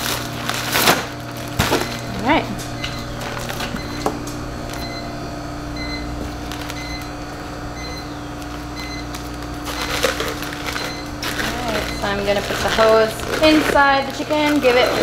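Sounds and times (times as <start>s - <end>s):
low machine hum: 0.0s - 15.0s
plastic bags crinkling: 0.0s - 15.0s.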